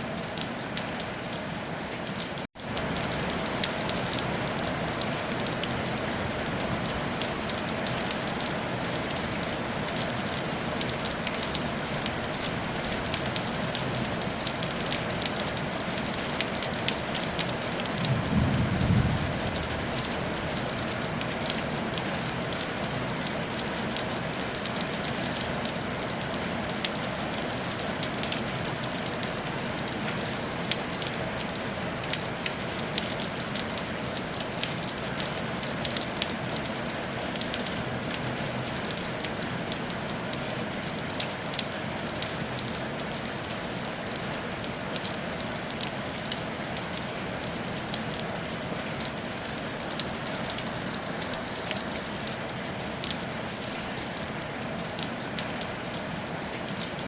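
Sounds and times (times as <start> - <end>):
rain on a tile roof: 0.0 - 57.0.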